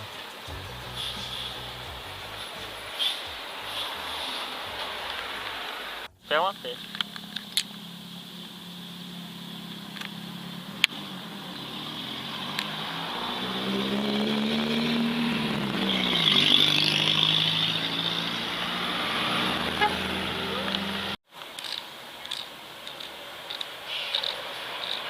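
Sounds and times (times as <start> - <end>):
engine running and revving: 0.0 - 6.1, 6.8 - 21.2.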